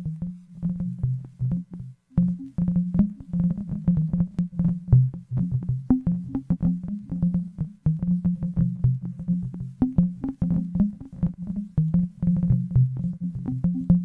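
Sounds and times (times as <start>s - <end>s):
modular synthesizer low notes: 0.0s - 14.0s.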